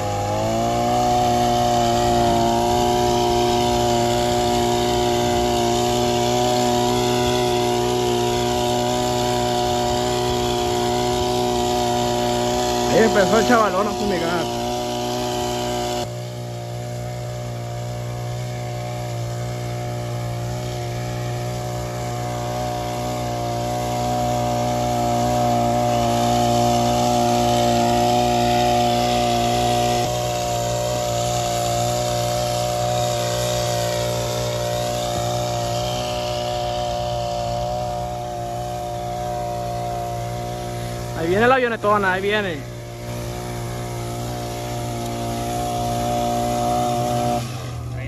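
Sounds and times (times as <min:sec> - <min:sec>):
pump engine running: 0:00.0 - 0:48.0.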